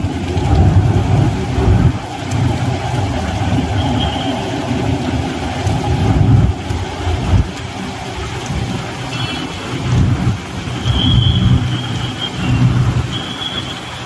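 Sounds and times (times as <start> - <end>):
heavy rain on road: 0.0 - 14.0
vehicles driving by: 0.0 - 14.0.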